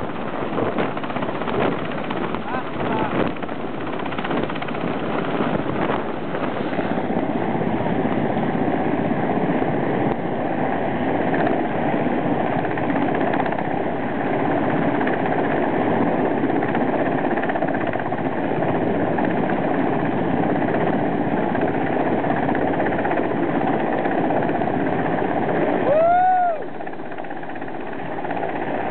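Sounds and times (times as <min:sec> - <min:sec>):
helicopter hovering: 0:00.0 - 0:28.9.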